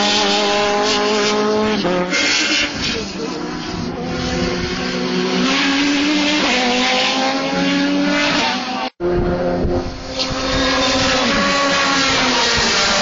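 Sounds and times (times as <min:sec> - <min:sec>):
race car approaching: 0:00.0 - 0:13.0
race car engines: 0:00.0 - 0:13.0.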